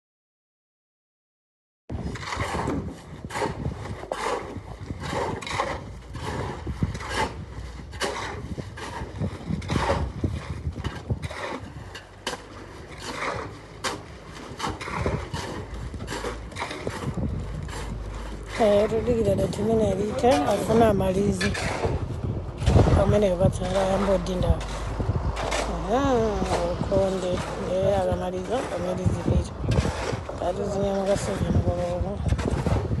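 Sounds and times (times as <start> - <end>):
steady background noise: 3.0 - 33.0.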